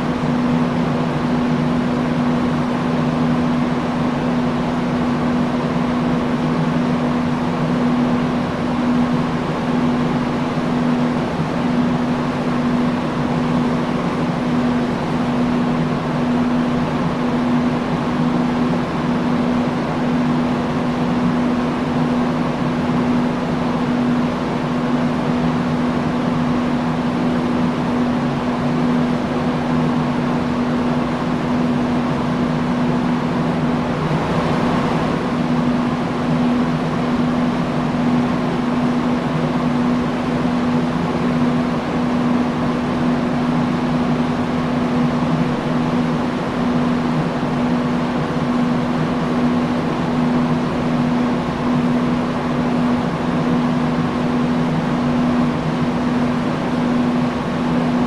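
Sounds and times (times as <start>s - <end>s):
industrial fan air rushing: 0.0s - 58.0s
low motor hum: 0.0s - 58.0s.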